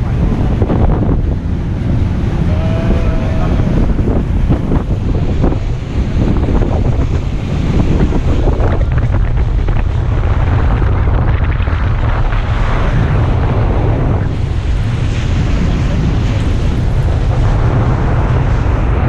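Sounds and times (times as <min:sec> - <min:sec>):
water rushing: 0:00.0 - 0:19.0
wind buffeting microphone: 0:00.0 - 0:19.0.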